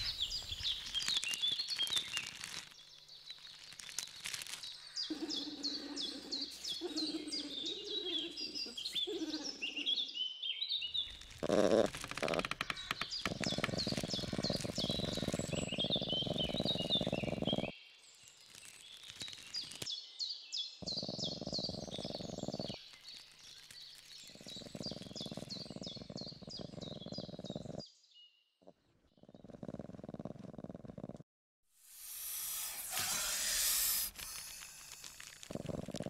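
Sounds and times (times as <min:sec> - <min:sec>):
songbirds singing: 0:00.0 - 0:30.2.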